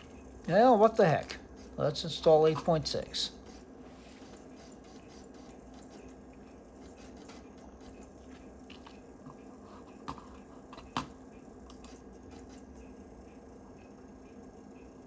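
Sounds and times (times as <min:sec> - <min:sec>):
computer humming: 0:00.0 - 0:15.0.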